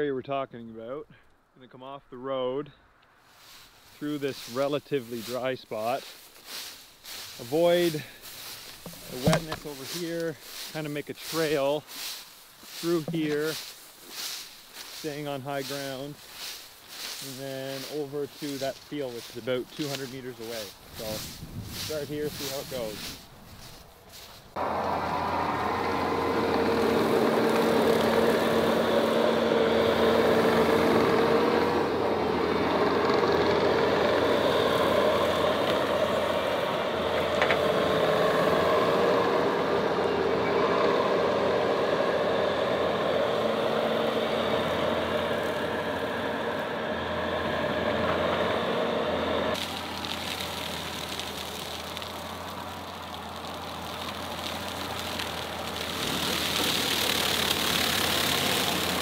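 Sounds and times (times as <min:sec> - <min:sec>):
skid steer engine running: 0:04.1 - 0:59.0.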